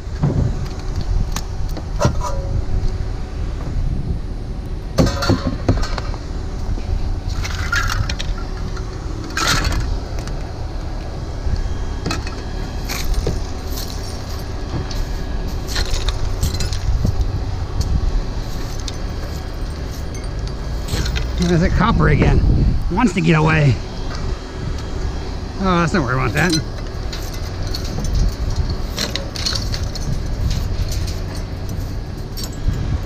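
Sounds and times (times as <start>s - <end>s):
vehicle low rumble: 0.0s - 33.0s.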